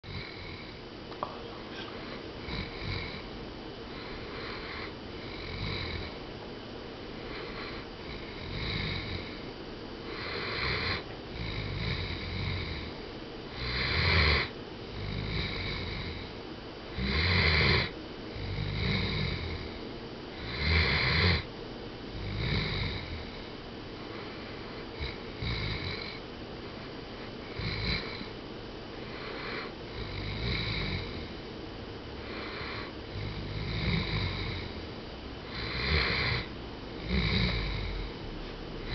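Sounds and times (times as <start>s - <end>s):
dog snoring: 0.1s - 0.8s, 1.7s - 3.3s, 3.9s - 6.2s, 7.2s - 21.5s, 22.1s - 23.5s, 24.1s - 26.2s, 27.4s - 28.3s, 29.0s - 31.4s, 32.2s - 38.9s.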